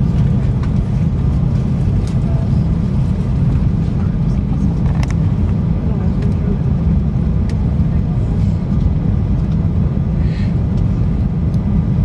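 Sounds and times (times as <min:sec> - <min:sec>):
airplane cabin rumble while taxiing: 0:00.0 - 0:12.0.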